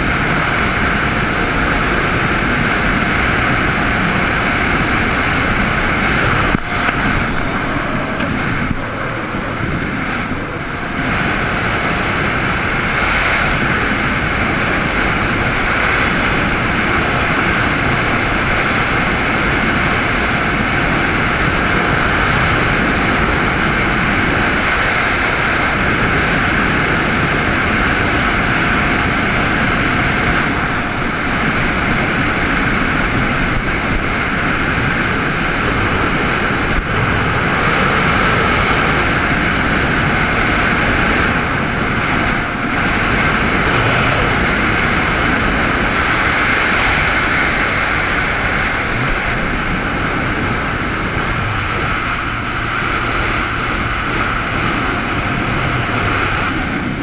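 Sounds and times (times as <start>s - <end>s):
jet ski engine running: 0.0s - 57.0s
wind: 0.0s - 57.0s
water rushing: 2.6s - 57.0s.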